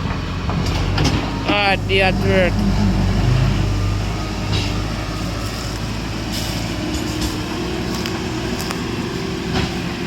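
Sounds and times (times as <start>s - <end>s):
heavy vehicle engine running: 0.0s - 10.0s.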